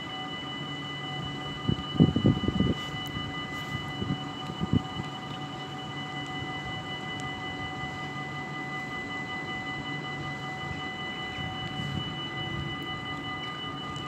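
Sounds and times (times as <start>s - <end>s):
level crossing warning bells: 0.0s - 14.0s.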